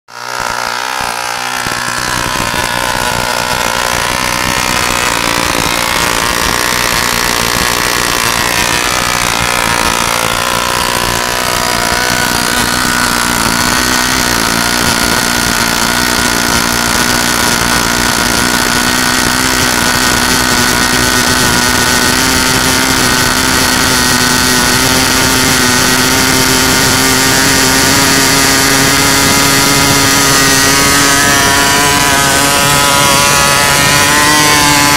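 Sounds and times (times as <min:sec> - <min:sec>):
model engine running at high speed: 0:00.0 - 0:34.9.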